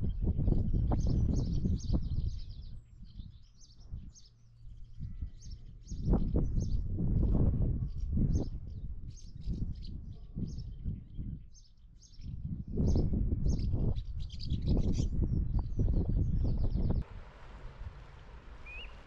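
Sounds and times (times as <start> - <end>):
small birds chirping: 0.0 - 17.0, 18.2 - 19.0
wind buffeting microphone: 0.0 - 19.0.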